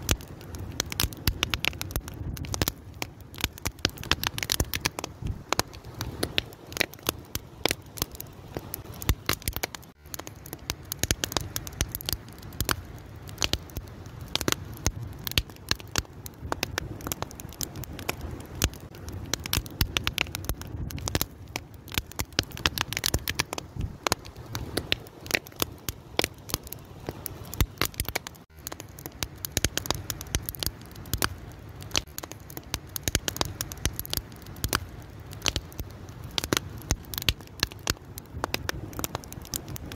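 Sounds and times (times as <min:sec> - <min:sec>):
fire crackling and popping: 0:00.0 - 0:39.9
low rush of flame: 0:00.0 - 0:39.9.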